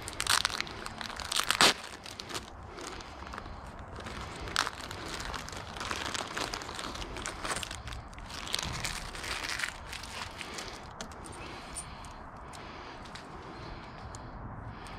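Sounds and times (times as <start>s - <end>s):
plastic crinkling and rustling: 0.0s - 12.2s.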